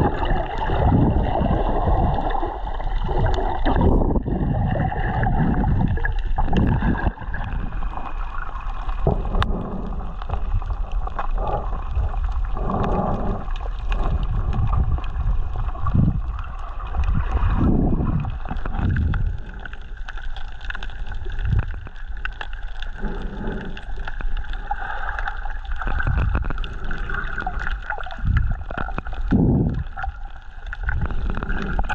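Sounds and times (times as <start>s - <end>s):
water sloshing and gurgling: 0.0s - 31.9s.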